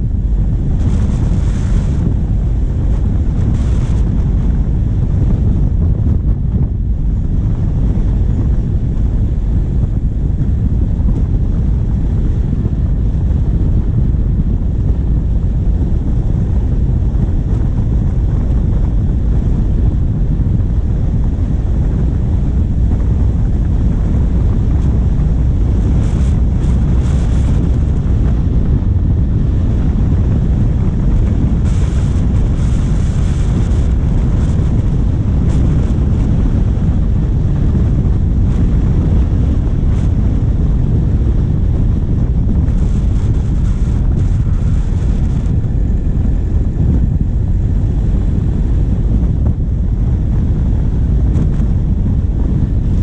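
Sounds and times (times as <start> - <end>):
diesel vehicle rumble: 0.0 - 53.0
wind buffeting microphone: 0.0 - 53.0.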